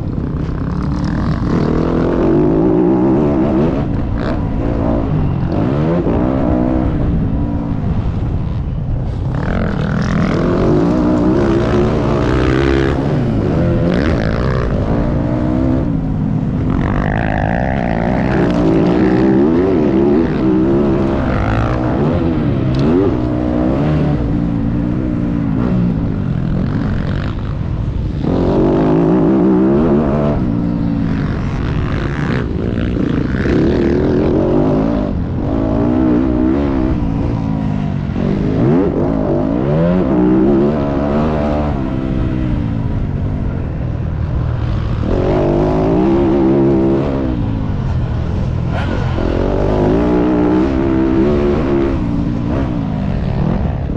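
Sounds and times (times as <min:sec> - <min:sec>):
dirt bike engine revving: 0:00.0 - 0:08.2, 0:09.1 - 0:43.1, 0:43.7 - 0:53.9.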